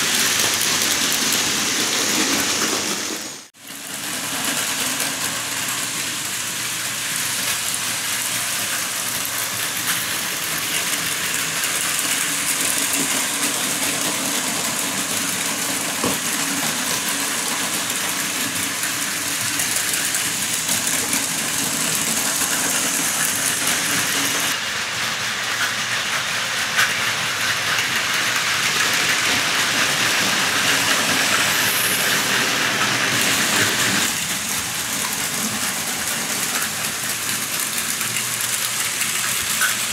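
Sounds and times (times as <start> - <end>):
toy trains whirring and rattling: 0.0 - 39.9.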